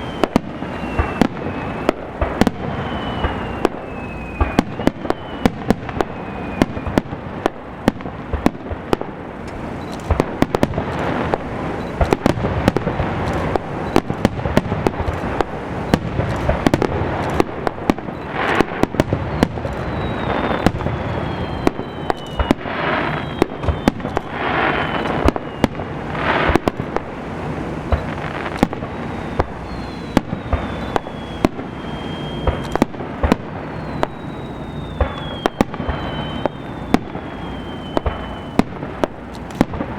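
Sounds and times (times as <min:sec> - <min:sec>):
falling fireworks whistles: 0:00.0 - 0:39.9
fireworks bangs and pops: 0:00.0 - 0:39.9
fireworks hiss: 0:00.0 - 0:39.9.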